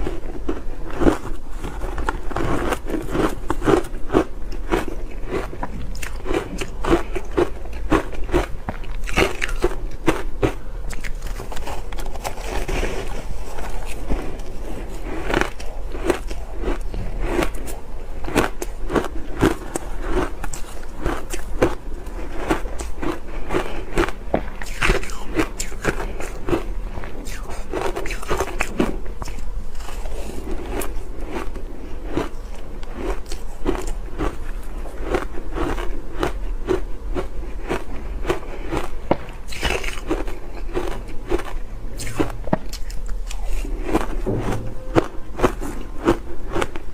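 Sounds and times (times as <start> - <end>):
ice being chewed crunching: 0.0 - 46.9.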